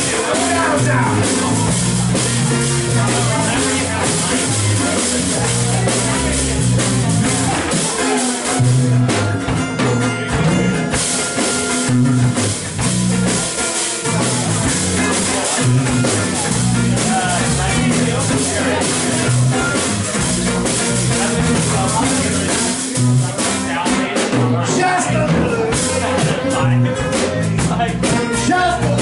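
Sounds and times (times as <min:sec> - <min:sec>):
acoustic guitar strumming: 0:00.0 - 0:29.0
drum kit: 0:00.0 - 0:29.0.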